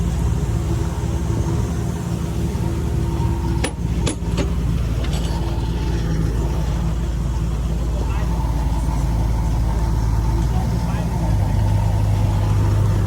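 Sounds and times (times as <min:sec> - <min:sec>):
heavy machinery diesel engine: 0:00.0 - 0:13.0.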